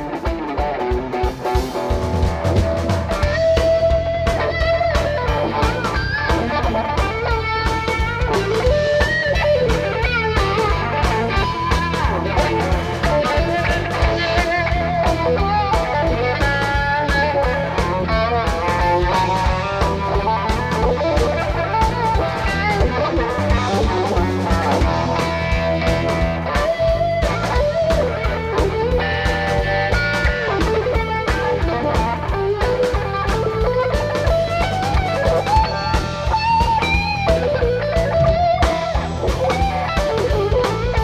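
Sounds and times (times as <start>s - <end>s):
blues-rock band playing: 0.0s - 41.0s
electric guitar solo: 0.0s - 41.0s.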